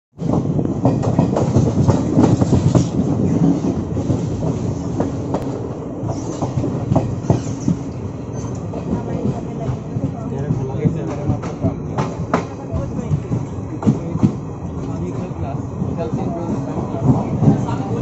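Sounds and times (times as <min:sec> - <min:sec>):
train rumbling: 0:00.2 - 0:18.0.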